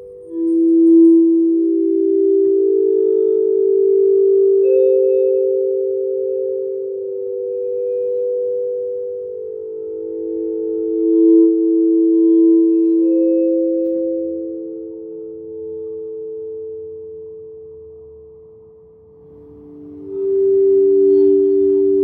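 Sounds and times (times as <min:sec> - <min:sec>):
ambient music of held tones: 0:00.0 - 0:22.0.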